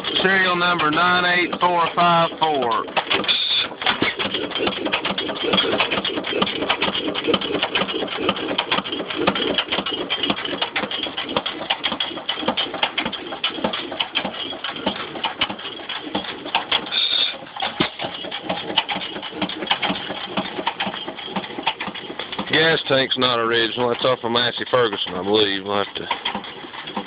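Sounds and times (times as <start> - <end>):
stationary gas engine clattering: 0.0 - 27.0.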